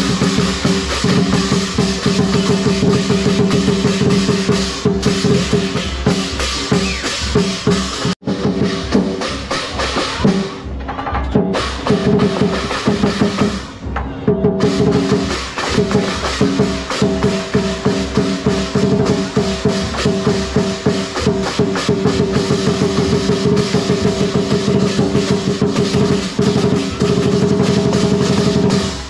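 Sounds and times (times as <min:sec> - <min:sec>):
cymbals: 0:00.0 - 0:29.0
fast drumming: 0:00.0 - 0:29.0.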